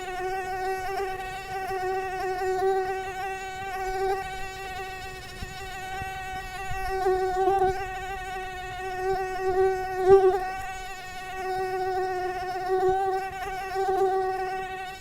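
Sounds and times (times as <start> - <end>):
mosquito whining in flight: 0.0 - 15.0.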